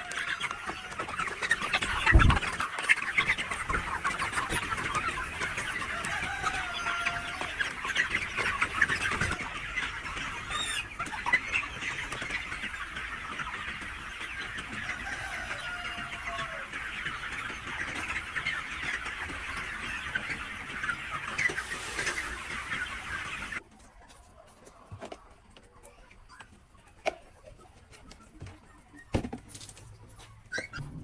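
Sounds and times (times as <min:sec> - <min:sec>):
chickens cheeping and clucking: 0:00.0 - 0:31.0.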